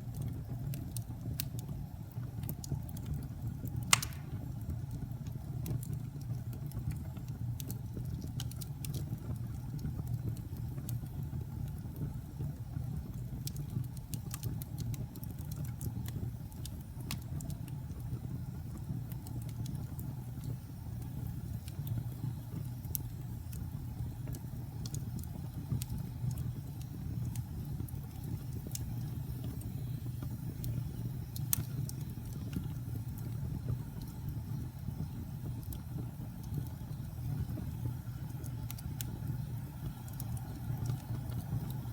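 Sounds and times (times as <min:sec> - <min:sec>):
campfire low rumble: 0:00.0 - 0:41.9
wood crackling and popping: 0:00.0 - 0:41.9.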